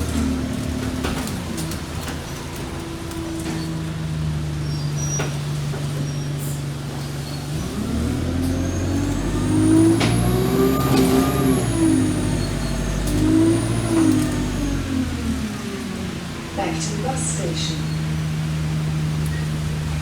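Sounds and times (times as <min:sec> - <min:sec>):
bus engine pulling away: 0:00.0 - 0:20.0.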